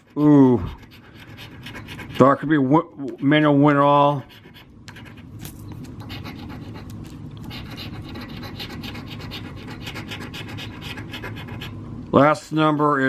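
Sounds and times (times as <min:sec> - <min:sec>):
scratching lottery ticket: 0:00.0 - 0:03.5, 0:04.1 - 0:11.8.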